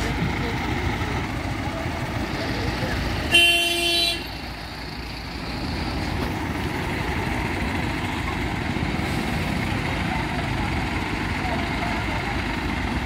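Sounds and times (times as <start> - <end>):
heavy diesel engines rumbling: 0.0 - 13.0.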